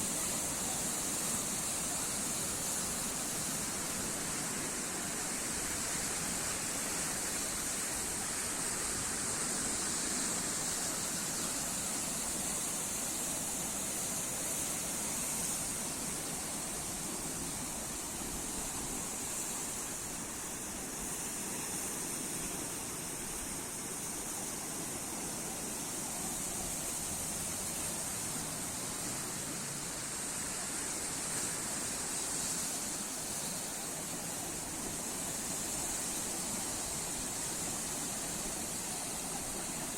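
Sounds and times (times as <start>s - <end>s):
sea surf rushing hiss: 0.0s - 39.9s.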